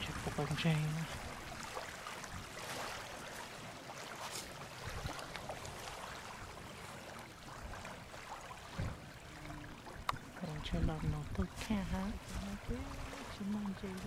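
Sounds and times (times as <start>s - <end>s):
waves lapping on gravel shore: 0.0s - 14.0s
wind: 0.0s - 14.0s.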